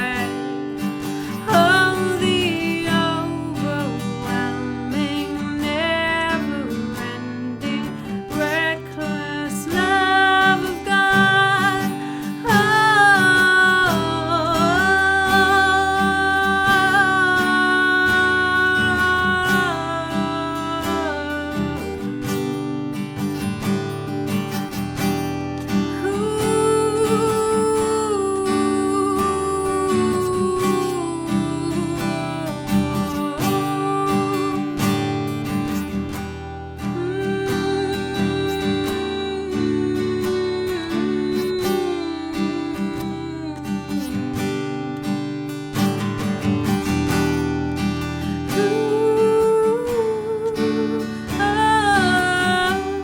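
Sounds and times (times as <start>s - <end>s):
person singing: 0.0s - 25.0s, 25.6s - 47.4s, 48.2s - 53.0s
acoustic guitar strumming: 0.0s - 53.0s.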